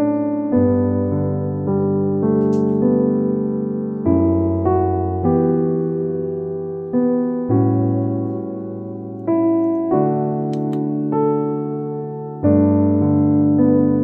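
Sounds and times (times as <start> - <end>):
piano playing sustained chords: 0.0 - 14.0.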